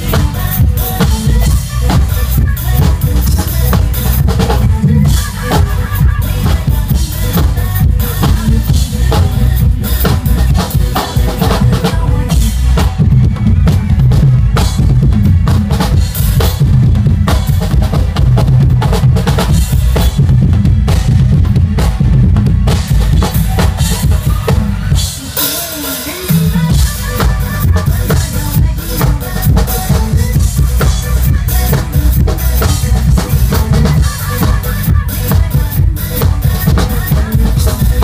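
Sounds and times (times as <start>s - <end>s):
drum kit playing a driving beat: 0.0s - 38.0s
pop backing track: 0.0s - 38.0s.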